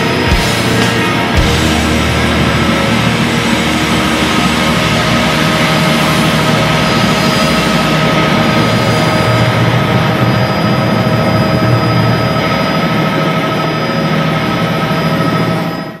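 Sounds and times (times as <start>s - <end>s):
aircraft engine whine and hum: 0.0s - 16.0s.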